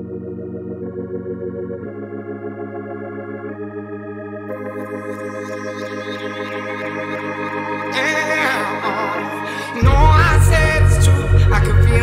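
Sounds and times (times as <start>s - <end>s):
sustained chords music: 0.0s - 12.0s.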